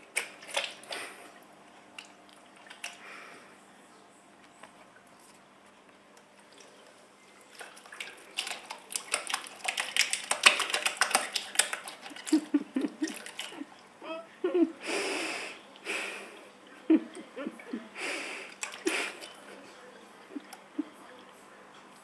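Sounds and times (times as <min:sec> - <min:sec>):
kitten splashing water: 0:00.0 - 0:03.4, 0:06.2 - 0:14.0, 0:14.6 - 0:21.2.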